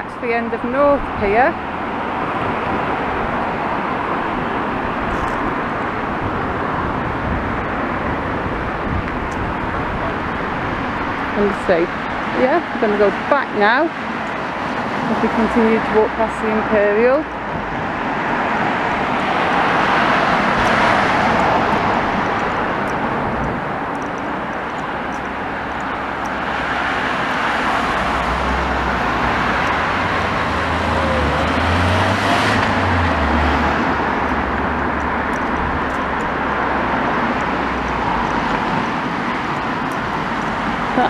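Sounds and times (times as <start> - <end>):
cars and vans passing: 0.0 - 41.0.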